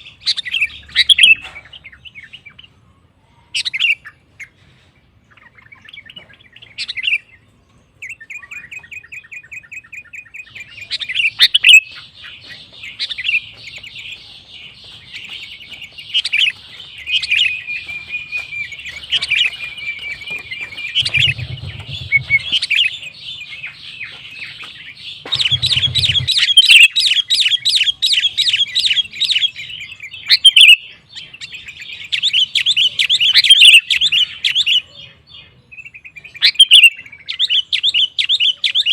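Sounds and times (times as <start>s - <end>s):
bird singing with fast trills: 0.0s - 38.9s.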